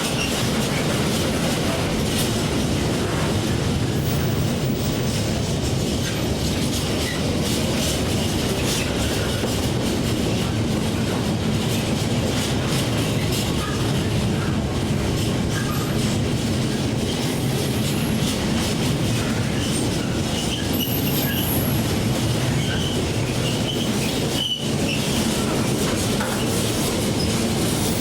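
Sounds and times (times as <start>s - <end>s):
train wheels rumbling: 0.0s - 28.0s
wheels clicking on track: 0.0s - 28.0s.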